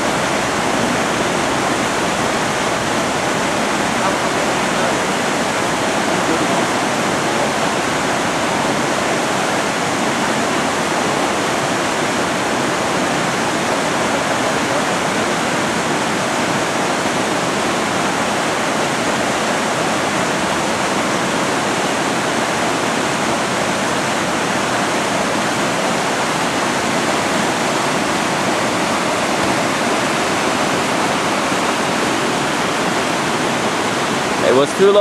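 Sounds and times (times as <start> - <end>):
whitewater rapids rushing: 0.0 - 35.0.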